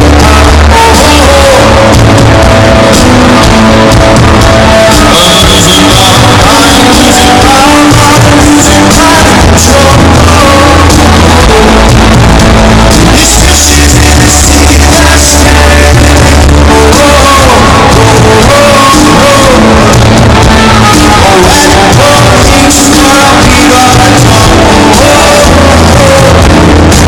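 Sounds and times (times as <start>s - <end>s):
lead singer's voice: 0.0s - 27.0s
live rock band: 0.0s - 27.0s.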